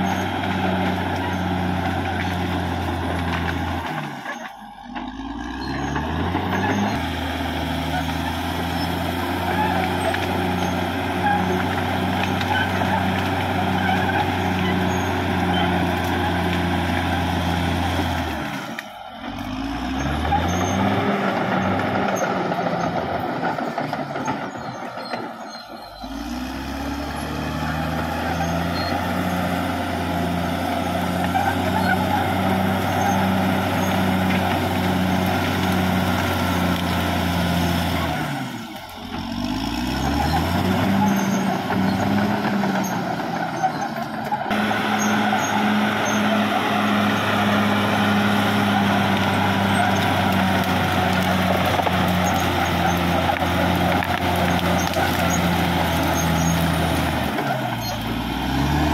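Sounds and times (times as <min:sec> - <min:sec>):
bulldozer diesel engine: 0:00.0 - 0:58.9
bulldozer pushing through brush: 0:00.0 - 0:58.9.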